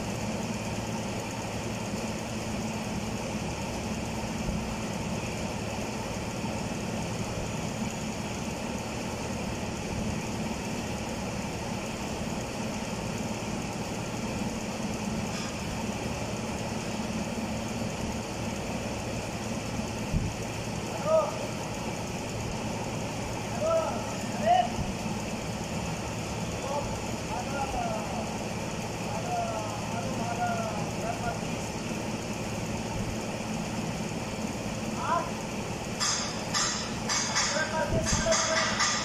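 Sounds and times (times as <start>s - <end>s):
steady mechanical drone: 0.0s - 39.0s.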